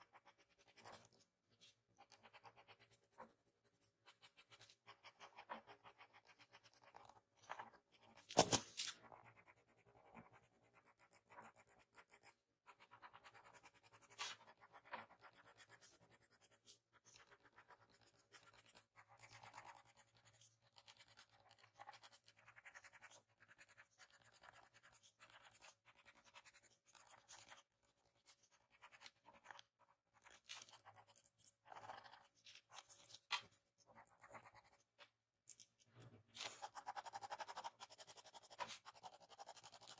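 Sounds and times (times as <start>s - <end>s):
pencil scratching on paper: 0.0s - 35.2s, 36.4s - 39.9s.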